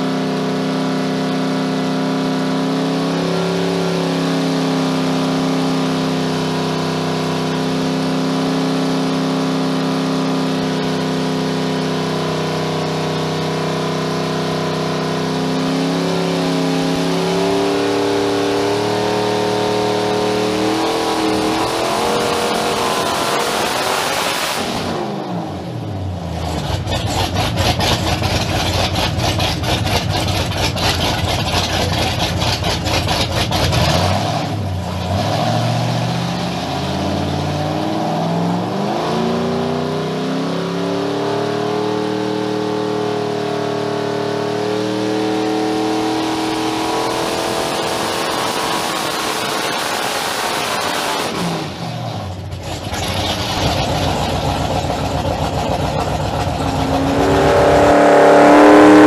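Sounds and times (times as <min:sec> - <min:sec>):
boat engine revving: 0:00.0 - 0:59.0.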